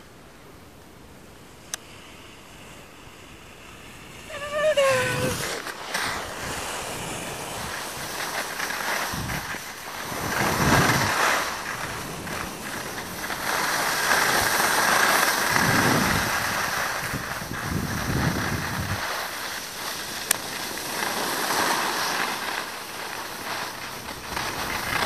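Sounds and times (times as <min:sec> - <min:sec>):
skis scraping over snow: 0:03.2 - 0:25.0
wind rushing over microphone: 0:03.5 - 0:25.0.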